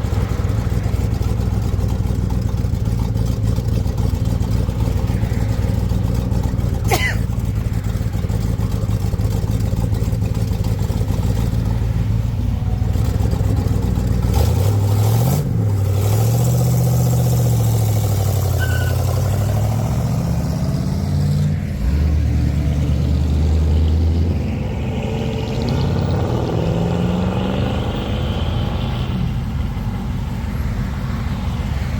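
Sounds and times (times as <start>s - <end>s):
car engine running at low revs: 0.0s - 31.9s.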